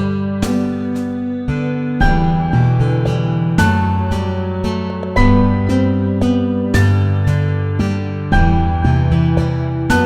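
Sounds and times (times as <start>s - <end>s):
piano: 0.0s - 10.0s
plucked acoustic guitar: 0.0s - 10.0s.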